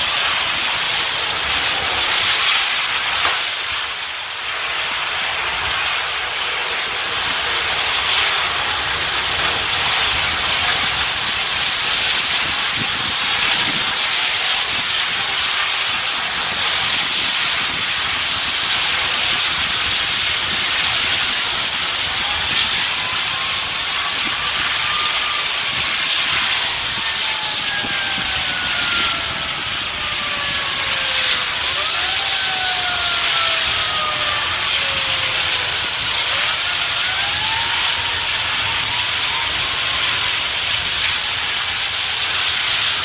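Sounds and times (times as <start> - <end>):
gas escaping with loud hiss: 0.0 - 43.0
siren wailing: 5.1 - 43.0.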